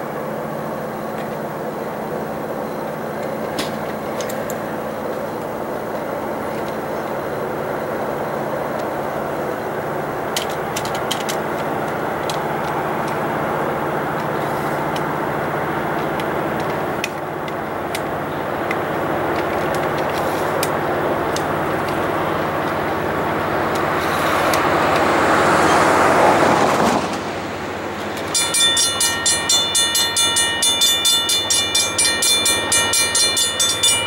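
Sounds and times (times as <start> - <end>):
diesel locomotive engine drone: 0.0 - 34.0.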